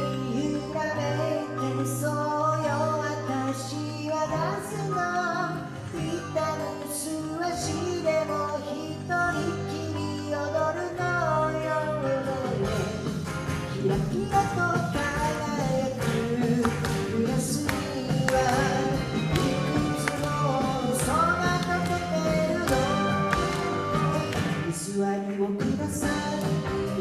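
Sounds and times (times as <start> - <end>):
acoustic guitar strumming: 0.0 - 27.0
man singing in a high voice: 0.0 - 27.0.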